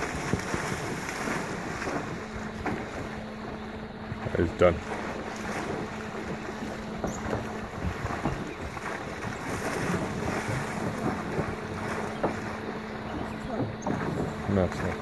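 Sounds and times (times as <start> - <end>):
animals splashing through water: 0.0 - 15.0
low steady hum: 0.0 - 15.0
wind on microphone: 0.0 - 15.0.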